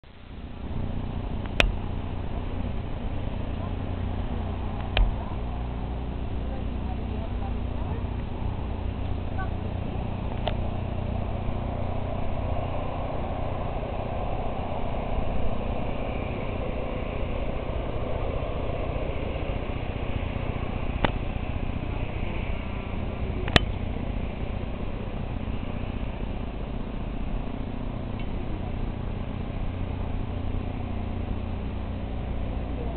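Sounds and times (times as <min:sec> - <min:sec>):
town noise: 0:00.0 - 0:32.9
wind: 0:00.0 - 0:32.9.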